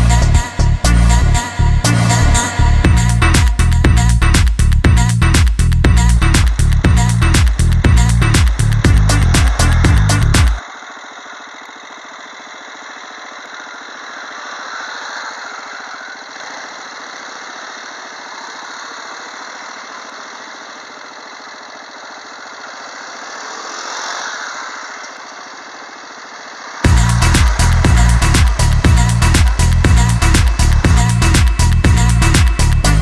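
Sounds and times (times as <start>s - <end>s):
quad bike engines passing: 5.7s - 33.0s.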